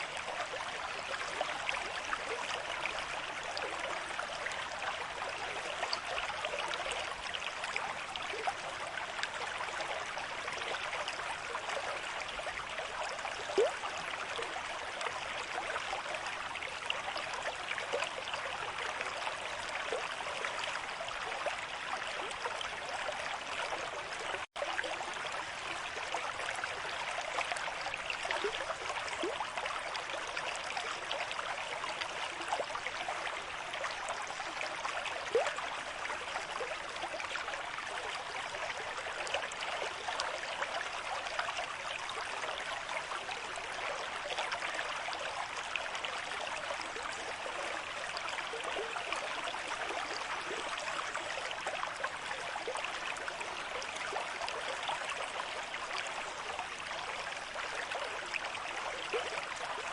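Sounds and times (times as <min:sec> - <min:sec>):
water bubbling gurgles: 0:00.0 - 0:59.9.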